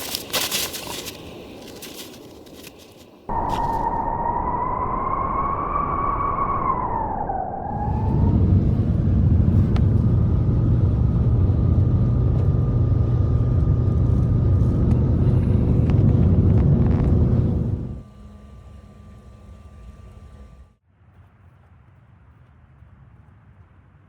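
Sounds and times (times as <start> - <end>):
engine running: 0.0 - 20.8.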